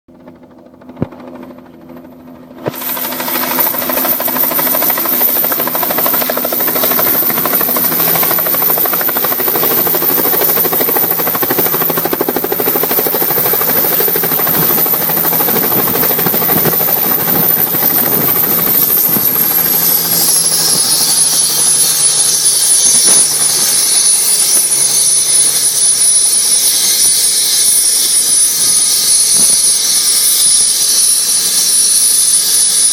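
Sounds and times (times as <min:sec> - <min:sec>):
helicopter rotor and engine noise: 0:00.1 - 0:32.9
high turbine whine: 0:00.1 - 0:32.9.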